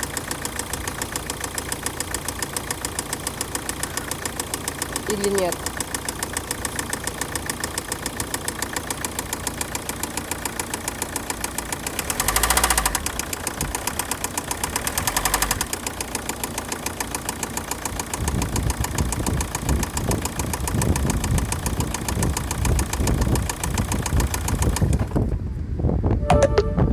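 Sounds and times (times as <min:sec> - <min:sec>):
engine revving: 0:00.0 - 0:25.3
rapid engine ticking knock: 0:00.0 - 0:25.4
diesel engine idling: 0:00.0 - 0:25.8.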